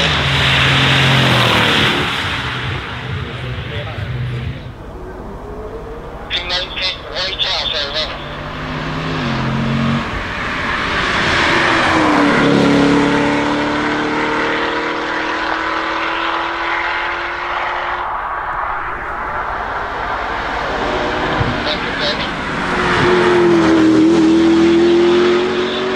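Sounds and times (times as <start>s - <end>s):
car engine driving past: 0.0s - 25.9s.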